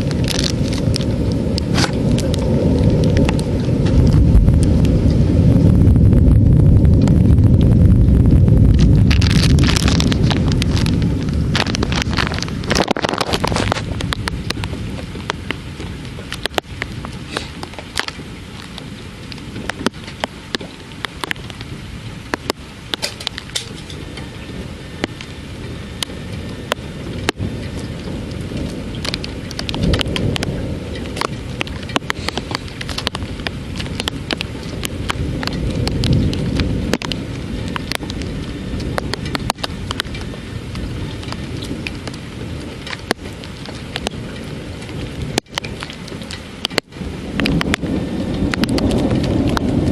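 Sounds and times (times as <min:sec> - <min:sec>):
low thunder rumble: 0:00.0 - 0:49.9
raindrops on hard surface: 0:00.0 - 0:49.9.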